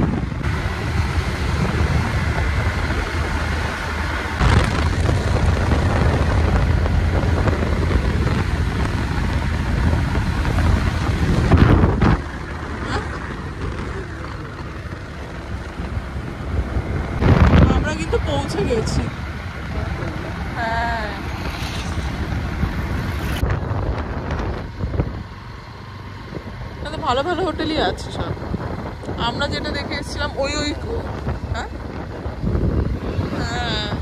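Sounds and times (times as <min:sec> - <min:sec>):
motorcycle engine: 0:00.0 - 0:34.0
road noise: 0:00.0 - 0:34.0
wind buffeting microphone: 0:00.0 - 0:34.0.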